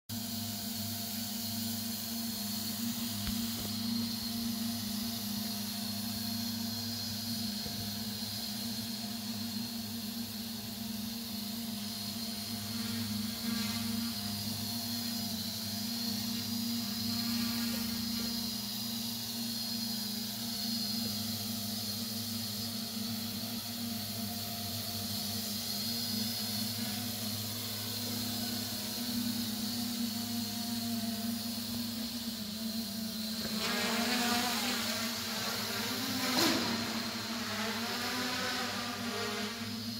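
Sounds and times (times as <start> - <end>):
high motor whine: 0.1 - 39.9
drone propellers humming: 0.2 - 39.9.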